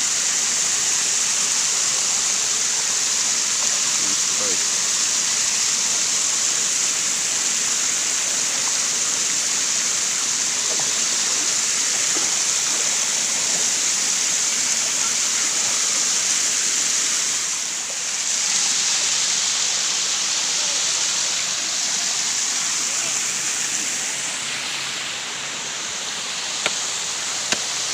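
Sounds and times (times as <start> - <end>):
flowing water rushing: 0.0 - 27.9.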